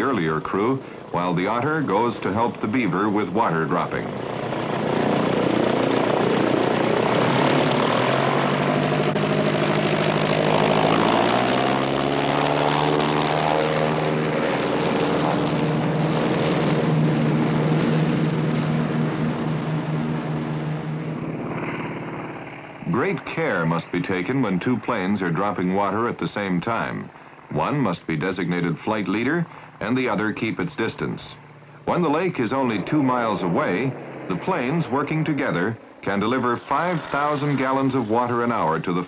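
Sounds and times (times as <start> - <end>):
floatplane engine and propeller: 0.0 - 39.0.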